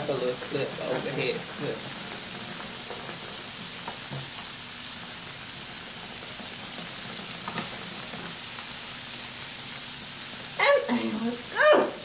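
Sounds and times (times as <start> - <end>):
food sizzling on a grill plate: 0.0 - 12.0.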